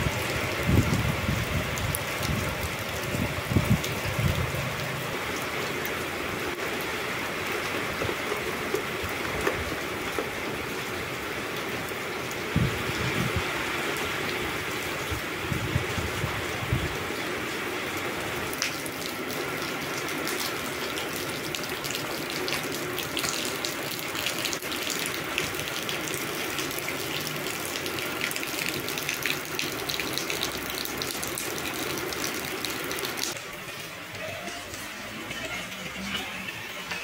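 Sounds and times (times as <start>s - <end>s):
rain on wet paving: 0.0s - 37.0s.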